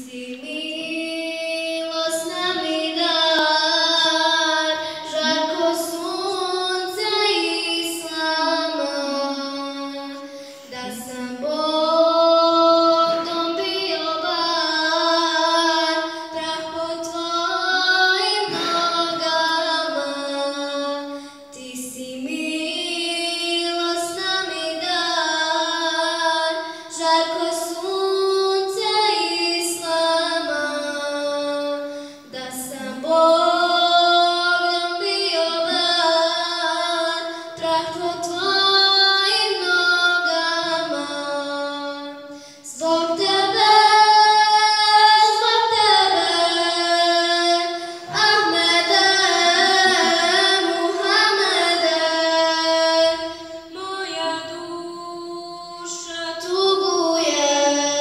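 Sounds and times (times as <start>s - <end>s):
girl singing unaccompanied: 0.0s - 58.0s.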